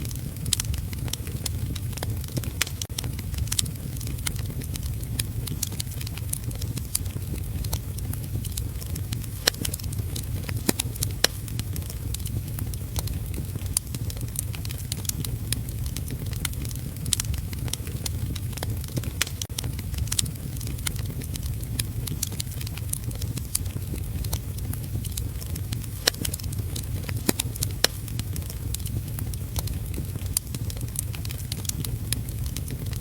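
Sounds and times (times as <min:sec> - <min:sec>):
steady low rumble: 0:00.0 - 0:33.0
wood fire crackling and popping: 0:00.0 - 0:33.0.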